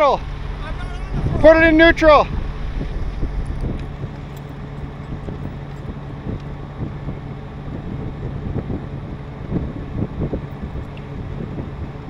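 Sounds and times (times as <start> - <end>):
truck engine running: 0.0 - 12.0
wind on microphone: 0.0 - 12.0.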